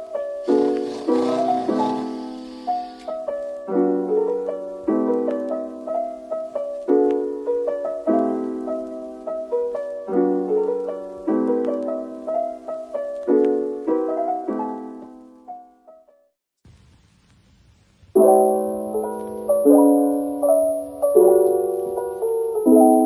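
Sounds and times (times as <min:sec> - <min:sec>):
gentle piano music: 0:00.0 - 0:16.3, 0:18.2 - 0:23.0.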